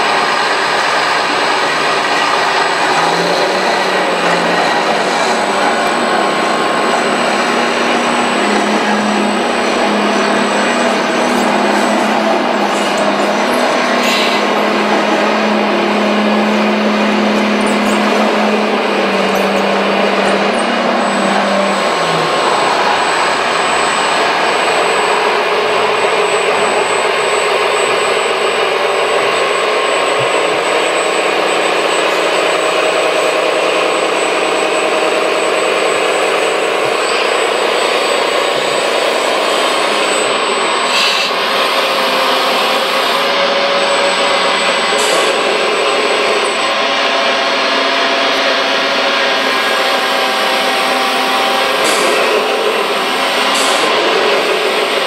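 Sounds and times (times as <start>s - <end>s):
hydraulics whirring: 0.0s - 55.0s
model dump truck driving: 0.0s - 55.0s
model excavator engine sound: 0.0s - 55.0s.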